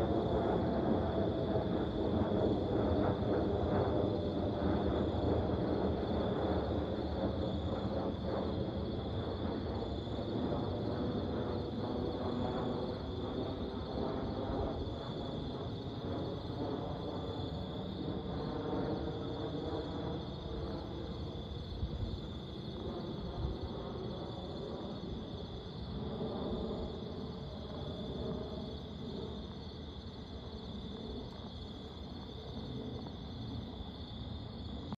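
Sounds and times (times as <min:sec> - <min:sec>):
insects chirping: 0:00.0 - 0:35.0
jet engines rumbling: 0:00.0 - 0:35.0.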